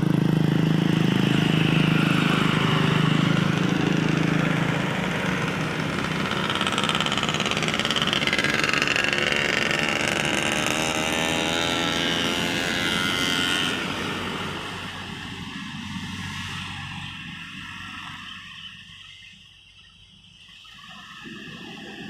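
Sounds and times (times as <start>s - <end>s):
heavy vehicle passing: 0.0s - 18.1s.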